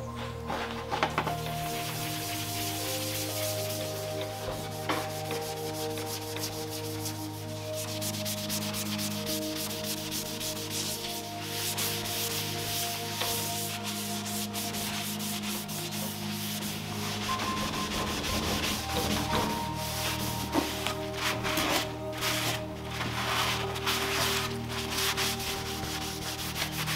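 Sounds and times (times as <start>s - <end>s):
cloth rag rubbing on wood: 0.2s - 26.9s.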